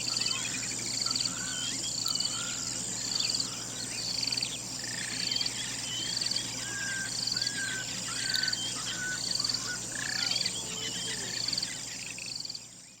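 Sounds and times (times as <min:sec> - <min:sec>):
high insect drone: 0:00.0 - 0:13.0
insect pulsed trill: 0:00.0 - 0:13.0
whistled bird chirps: 0:00.0 - 0:13.0.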